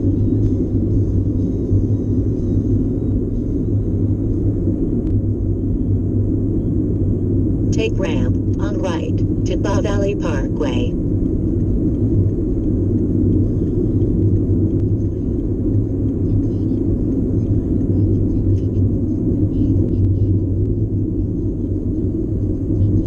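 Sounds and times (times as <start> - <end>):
car road noise at highway speed: 0.0 - 23.0.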